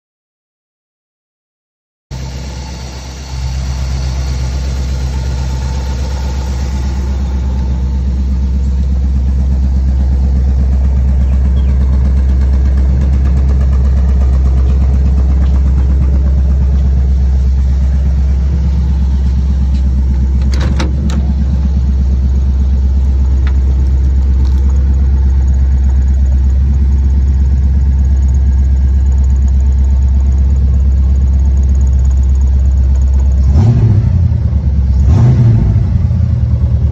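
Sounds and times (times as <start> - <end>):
car engine idling: 2.1 - 36.9.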